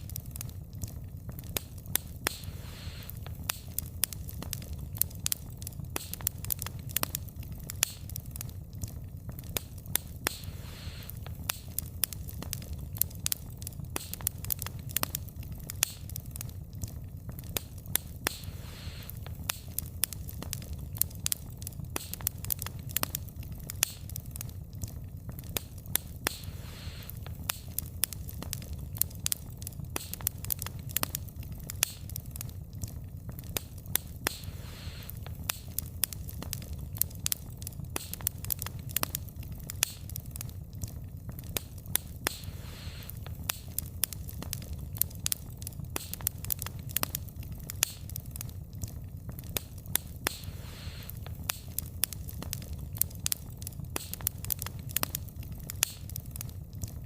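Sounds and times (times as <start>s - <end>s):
logs crackling and popping: 0.0s - 57.0s
low rumble of flames: 0.0s - 57.0s
soft hissing of fire: 0.0s - 57.0s.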